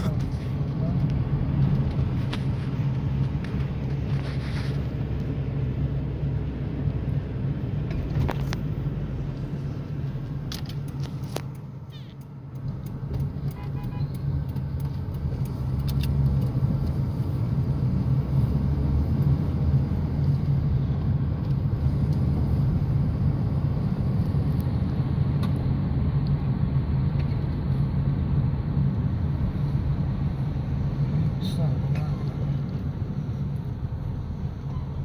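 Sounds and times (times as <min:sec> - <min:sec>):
car interior engine drone: 0:00.0 - 0:35.0.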